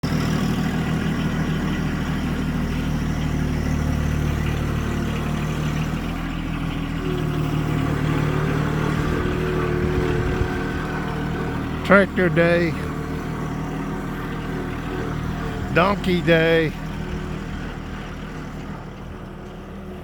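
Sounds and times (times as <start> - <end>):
motor engine humming: 0.0 - 20.0.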